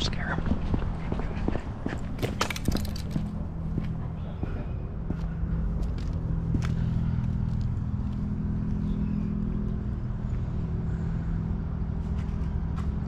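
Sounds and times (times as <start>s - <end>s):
engine idling: 2.1s - 13.0s.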